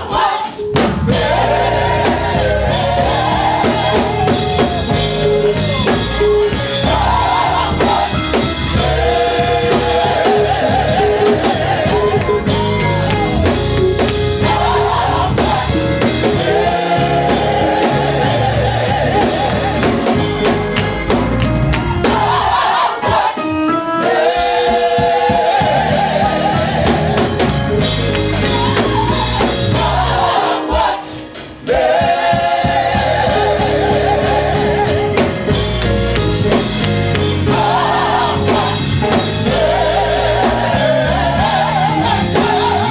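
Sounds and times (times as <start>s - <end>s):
drum kit: 0.0s - 42.9s
voices singing gospel: 0.0s - 42.9s
bass: 0.7s - 22.7s, 25.3s - 30.5s, 31.7s - 42.9s.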